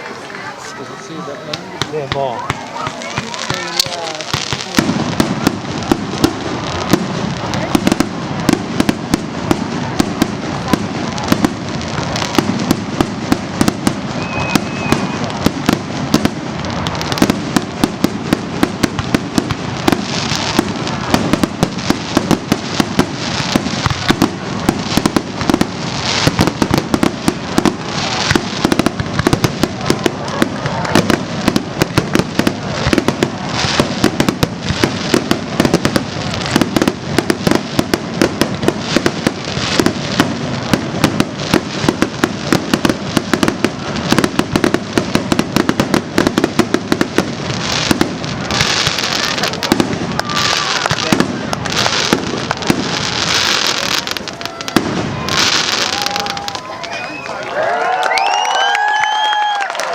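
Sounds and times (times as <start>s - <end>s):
fireworks banging: 0.0s - 59.9s
fireworks crackling: 0.0s - 59.9s.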